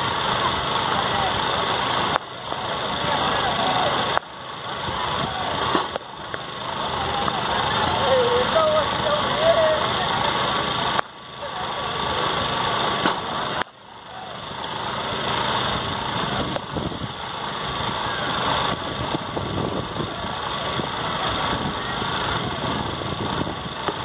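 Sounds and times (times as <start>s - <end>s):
rushing background noise with rumble: 0.0s - 24.0s.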